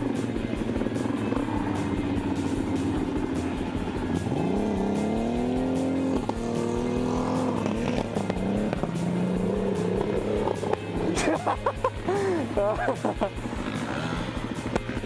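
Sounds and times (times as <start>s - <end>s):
car engine revving: 0.0s - 15.0s
dirt bikes idling: 0.0s - 15.0s.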